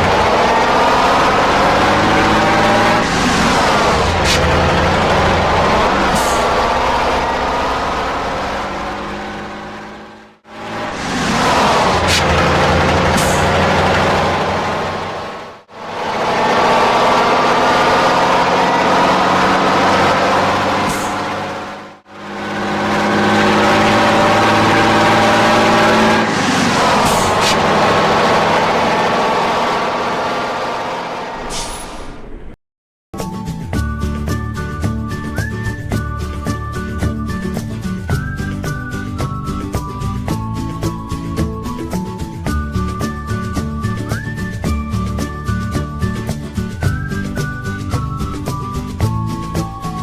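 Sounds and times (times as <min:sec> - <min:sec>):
heavy truck engine running: 0:00.0 - 0:32.6, 0:33.2 - 0:50.0.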